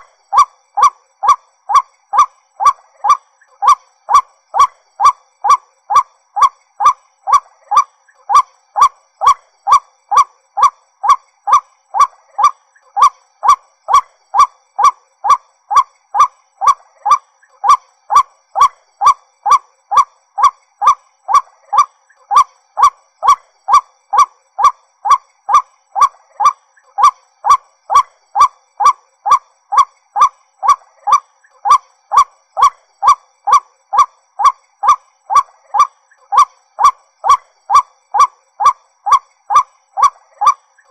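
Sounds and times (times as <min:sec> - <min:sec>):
waterhen calling: 0:00.0 - 0:40.9.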